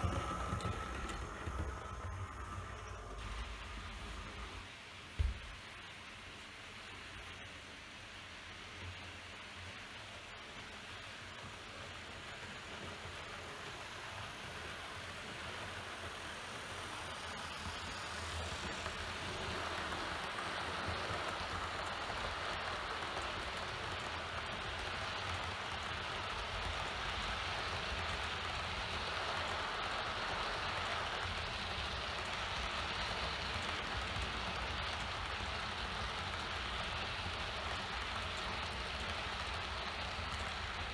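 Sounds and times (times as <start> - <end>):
model train wheels rolling on rails: 0.0 - 40.9.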